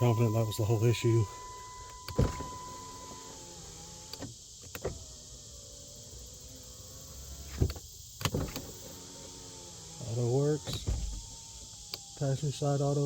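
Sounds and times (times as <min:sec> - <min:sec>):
power window motor running: 0:00.0 - 0:13.0.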